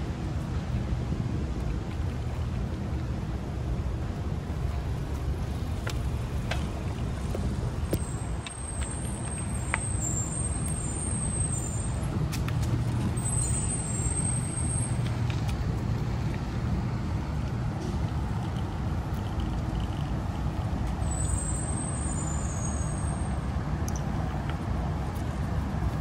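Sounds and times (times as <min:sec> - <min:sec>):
tyre and wind rumble: 0:00.0 - 0:22.6, 0:23.3 - 0:26.0.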